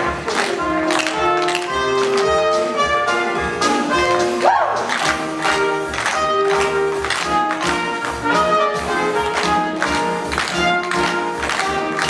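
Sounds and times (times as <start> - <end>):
brass-led dance music: 0.0 - 12.0.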